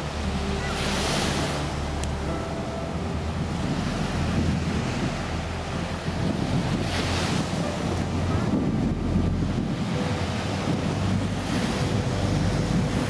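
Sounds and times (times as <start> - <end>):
surf washing against rocks: 0.0 - 13.0
wind rumbling on microphone: 0.0 - 13.0.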